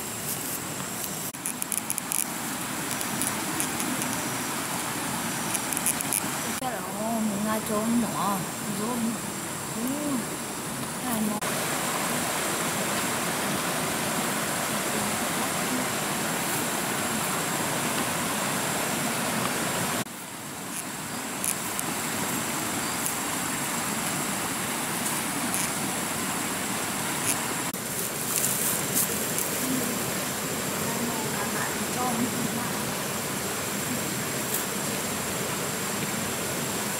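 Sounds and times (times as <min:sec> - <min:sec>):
stream flowing over stones: 0:00.0 - 0:36.9.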